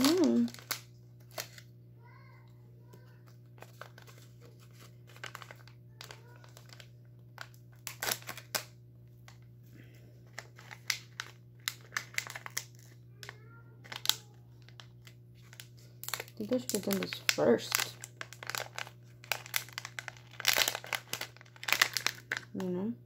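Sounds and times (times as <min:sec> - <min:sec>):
plastic packaging crinkling: 0:00.0 - 0:01.8, 0:03.2 - 0:09.5, 0:10.2 - 0:22.7.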